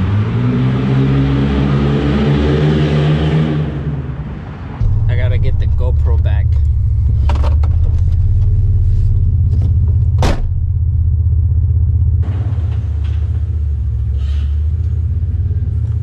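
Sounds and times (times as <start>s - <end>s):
pickup truck engine droning: 0.0s - 16.0s.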